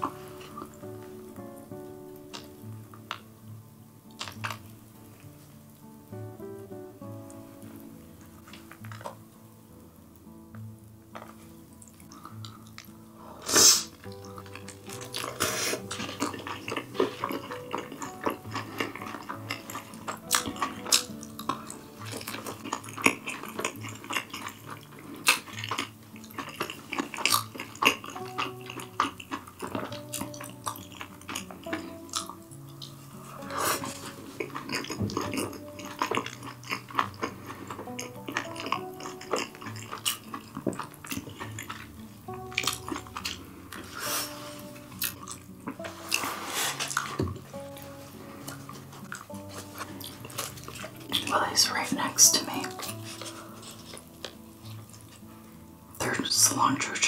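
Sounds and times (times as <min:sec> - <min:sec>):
close eating sounds: 0:00.0 - 0:03.3, 0:04.0 - 0:06.5, 0:07.1 - 0:10.3, 0:11.1 - 0:57.0
quiet background music: 0:00.0 - 0:57.0.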